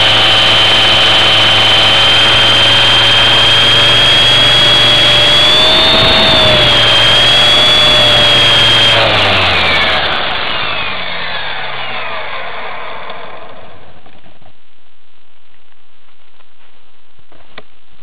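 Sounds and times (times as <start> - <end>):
rc helicopter motor whining: 0.0 - 14.5.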